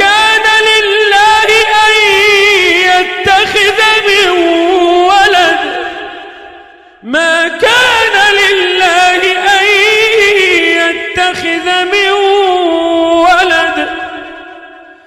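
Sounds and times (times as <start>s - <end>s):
man chanting melodic recitation: 0.0s - 6.1s, 7.0s - 14.7s.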